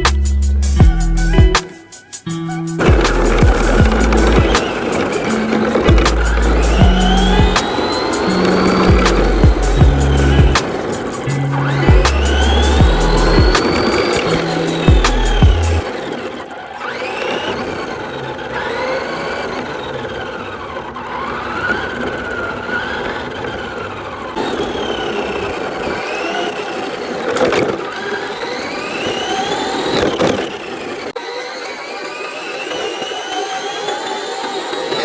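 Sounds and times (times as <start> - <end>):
electric motor whining: 0.8 - 35.0.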